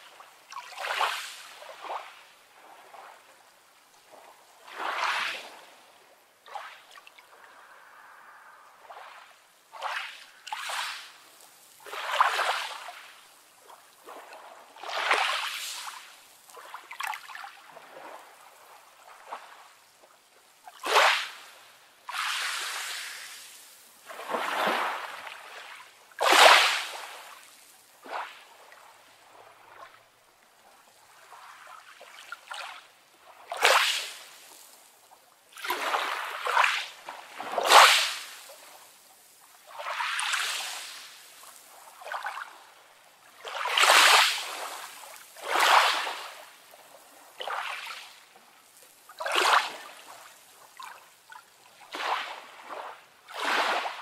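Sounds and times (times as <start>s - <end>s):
small waves washing on sand: 0.0s - 54.0s.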